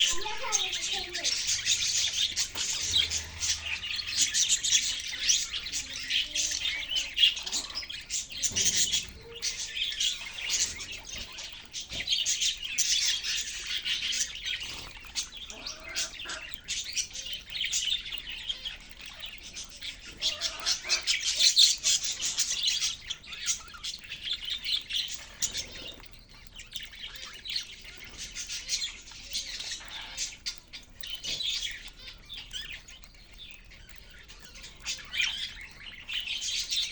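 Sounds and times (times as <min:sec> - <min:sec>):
budgerigars chirping and chattering: 0:00.0 - 0:36.9.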